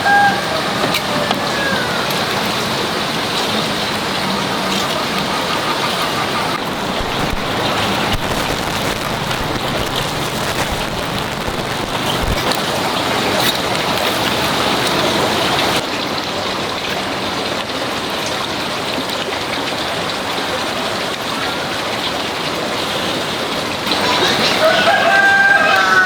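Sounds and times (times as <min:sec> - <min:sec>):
steady hiss of water: 0:00.0 - 0:26.0.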